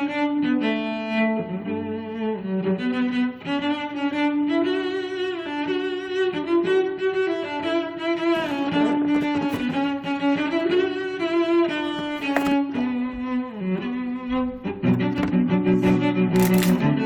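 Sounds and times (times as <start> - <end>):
violin and cello music: 0.0 - 17.0.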